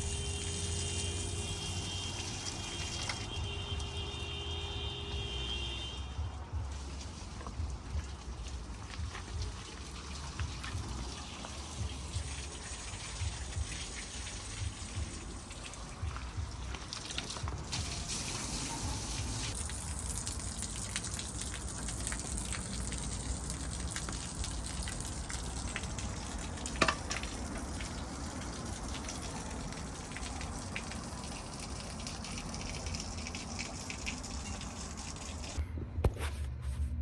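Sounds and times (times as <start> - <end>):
water spraying: 0.0 - 35.6.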